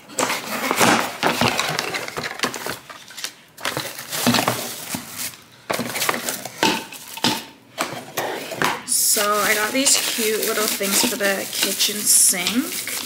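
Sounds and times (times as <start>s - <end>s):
plastic wrapping crinkling: 0.3s - 7.4s, 8.9s - 13.0s.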